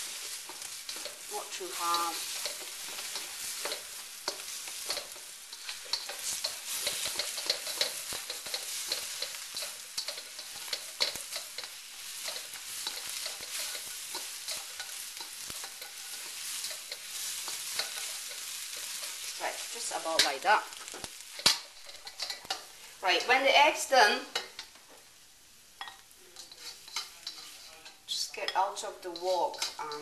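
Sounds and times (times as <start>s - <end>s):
utensil scraping pan: 0.0s - 22.7s, 26.3s - 30.0s
eggs sizzling in oil: 0.0s - 30.0s.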